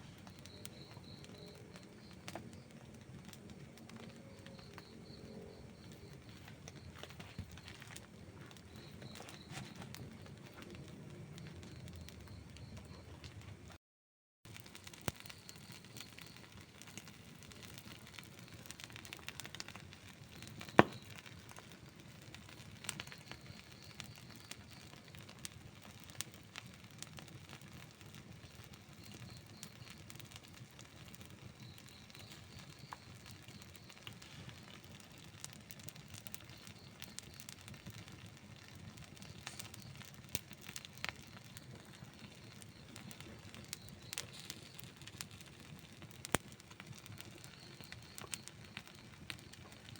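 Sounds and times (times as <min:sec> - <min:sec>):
campfire crackling and popping: 0:00.0 - 0:13.8, 0:14.5 - 0:49.9.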